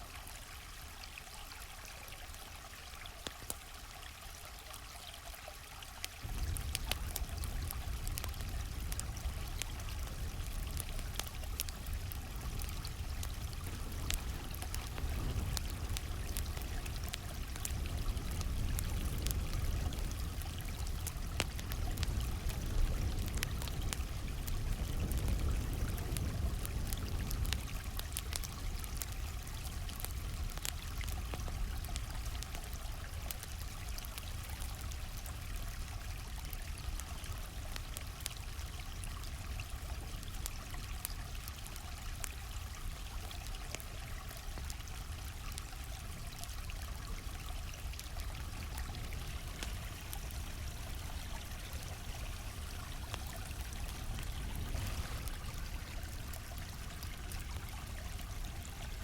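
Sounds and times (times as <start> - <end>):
campfire crackling: 0.0 - 59.0
flowing stream: 0.0 - 59.0.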